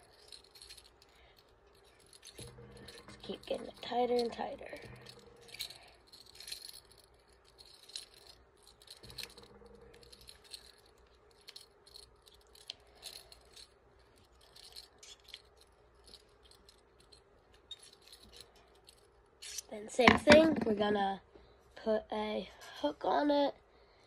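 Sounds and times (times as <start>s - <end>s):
screw eye clicking and rattling: 0.0s - 20.6s.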